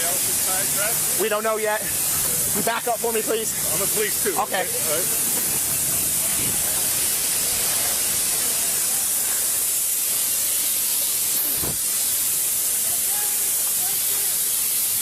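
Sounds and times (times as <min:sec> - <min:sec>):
gas hissing from a leak: 0:00.0 - 0:15.0.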